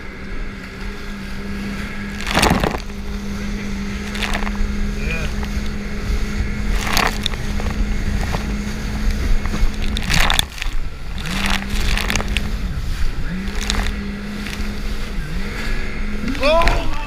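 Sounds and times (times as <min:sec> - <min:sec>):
jet ski engine running hard: 0:00.0 - 0:17.0.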